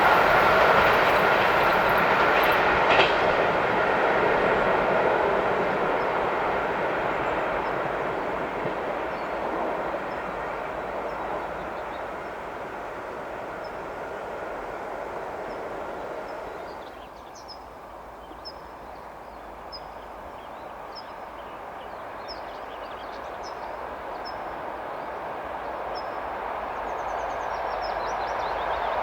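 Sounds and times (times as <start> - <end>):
train rolling on tracks: 0.0 - 29.0.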